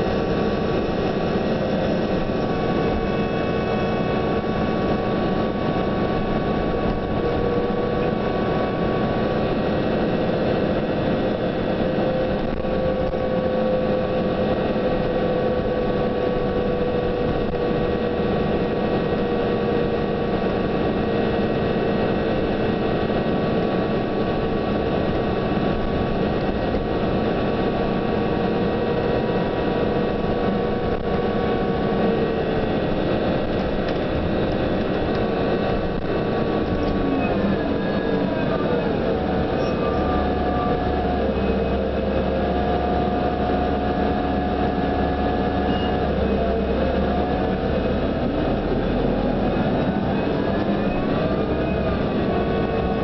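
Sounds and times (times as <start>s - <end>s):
bus drivetrain and road noise: 0.0s - 53.0s
whine drifting in pitch: 0.0s - 53.0s.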